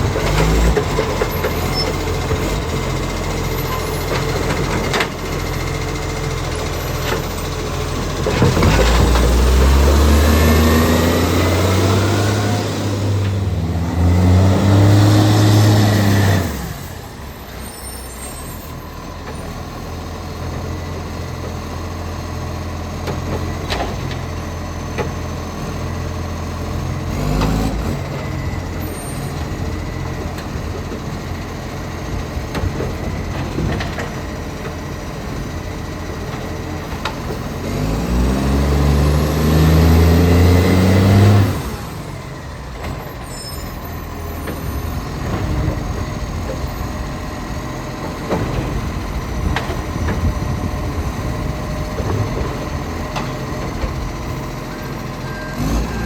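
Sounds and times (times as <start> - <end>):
diesel truck engine revving: 0.0 - 56.0.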